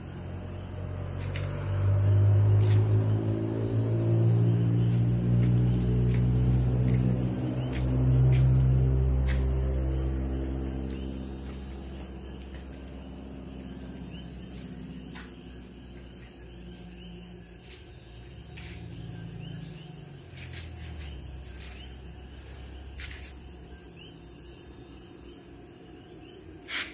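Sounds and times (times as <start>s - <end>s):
night insects chirping: 0.0s - 26.9s.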